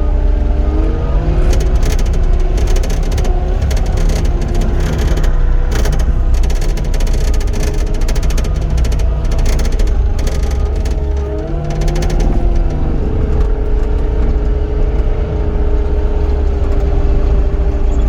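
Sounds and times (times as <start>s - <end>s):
loader engine rumble: 0.0s - 18.0s
metallic clatter and rattling: 0.7s - 18.0s.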